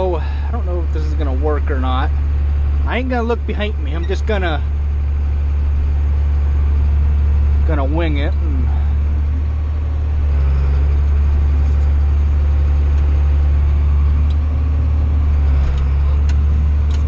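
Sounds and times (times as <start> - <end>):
diesel tractor engine droning: 0.0 - 17.0.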